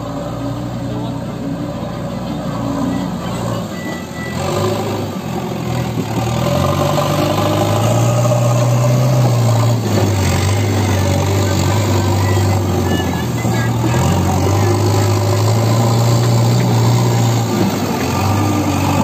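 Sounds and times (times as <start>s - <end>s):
diesel engine working: 0.0s - 19.0s.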